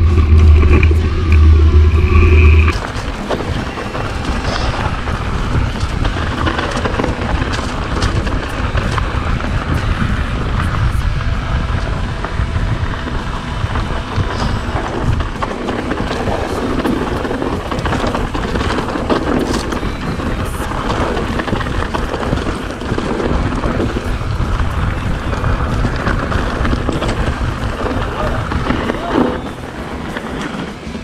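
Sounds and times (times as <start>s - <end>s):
bike tyres crunching over gravel: 0.0s - 31.0s
wind rumble on microphone: 0.0s - 31.0s.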